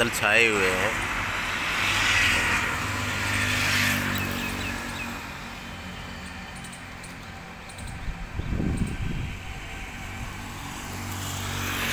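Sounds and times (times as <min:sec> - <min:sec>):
vehicle driving past: 0:01.0 - 0:11.9.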